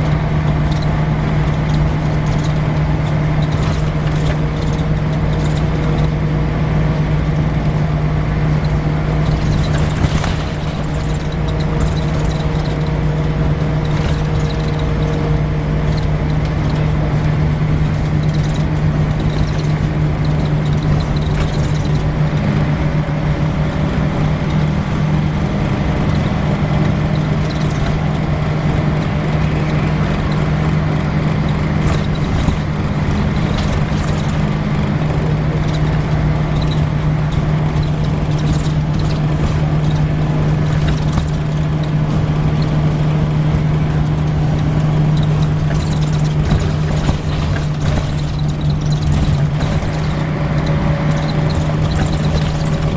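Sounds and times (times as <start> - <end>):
bus diesel engine humming: 0.0 - 52.9.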